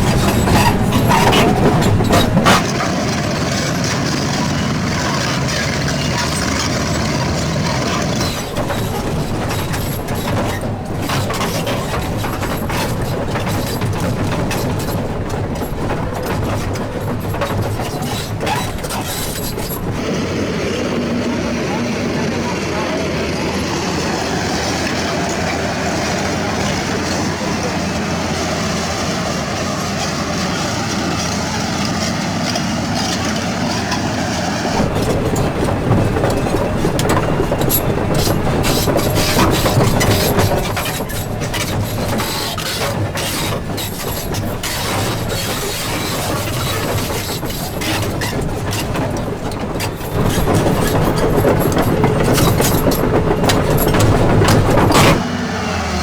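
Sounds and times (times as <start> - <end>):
rapid clatter of knocks and scrapes: 0.0 - 20.2, 23.7 - 55.2
excavator diesel engine and hydraulics: 0.0 - 56.0.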